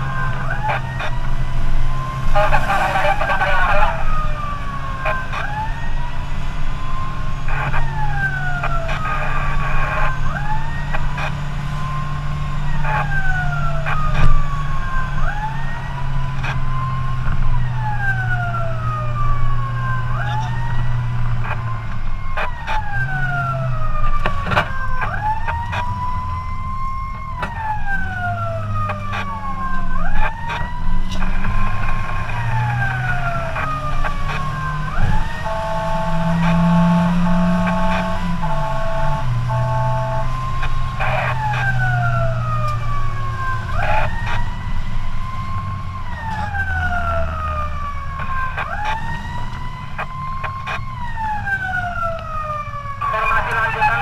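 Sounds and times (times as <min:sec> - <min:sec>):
fire engine siren wailing: 0:00.0 - 0:54.0
truck engine drone: 0:00.0 - 0:54.0.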